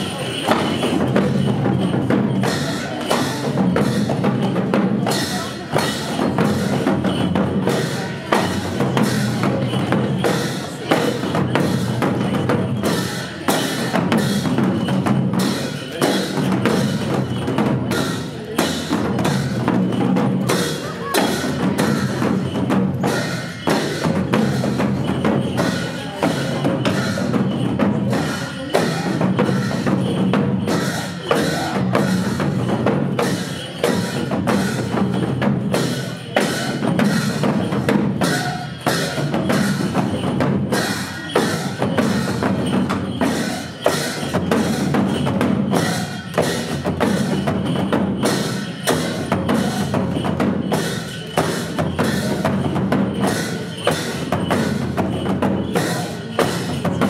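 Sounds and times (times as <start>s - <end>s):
drums struck with sticks: 0.0s - 57.0s
folk music with drum beat: 0.0s - 57.0s.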